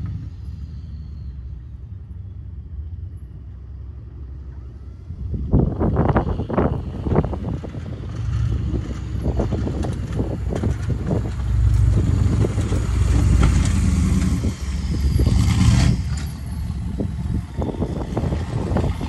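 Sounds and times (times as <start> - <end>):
diesel truck rumbling past: 0.0 - 19.0.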